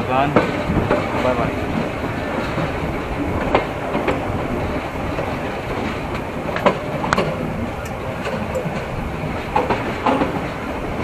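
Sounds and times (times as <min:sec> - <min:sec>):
rail joint clacks: 0:00.0 - 0:11.0
train wheels rumbling: 0:00.0 - 0:11.0.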